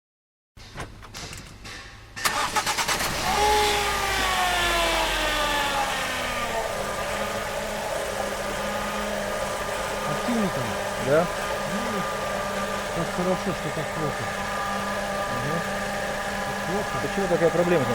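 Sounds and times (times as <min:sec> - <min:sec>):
car engine starting and idling: 0:00.9 - 0:17.9
power steering pump humming: 0:02.2 - 0:17.9.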